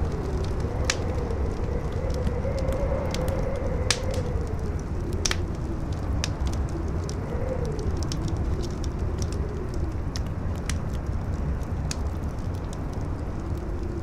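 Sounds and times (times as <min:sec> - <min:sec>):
campfire crackling and popping: 0:00.0 - 0:14.0
strong wind howling: 0:00.0 - 0:14.0.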